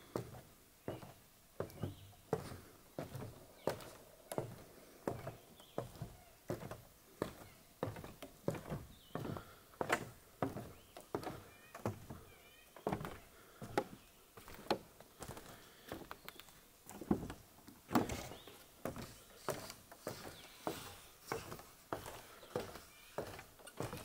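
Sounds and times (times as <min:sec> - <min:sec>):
footsteps on wooden stairs: 0:00.0 - 0:24.0.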